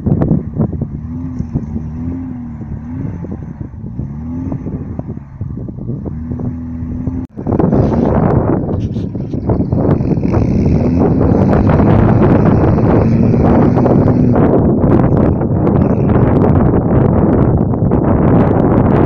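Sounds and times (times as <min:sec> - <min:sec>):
small vehicle engine revving: 0:00.0 - 0:16.8.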